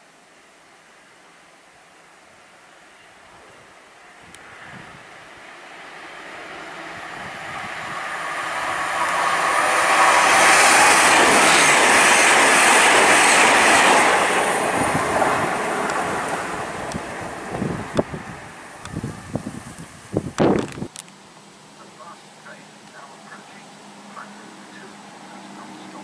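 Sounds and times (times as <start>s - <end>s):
passenger train passing: 0.7s - 26.0s.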